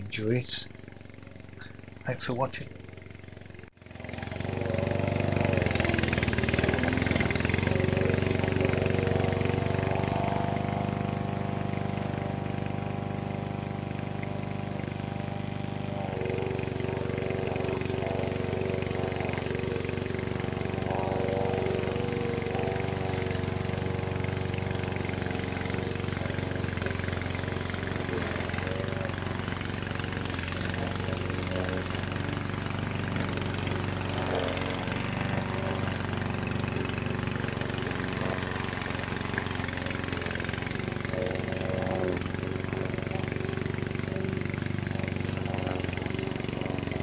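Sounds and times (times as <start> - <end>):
mower petrol engine running: 0.0 - 47.0.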